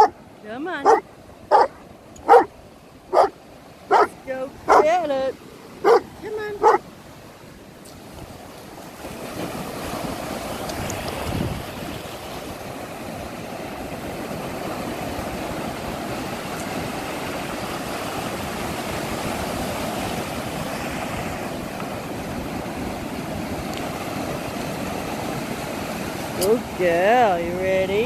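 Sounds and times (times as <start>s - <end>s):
ocean surf breaking on shore: 0.0s - 28.0s.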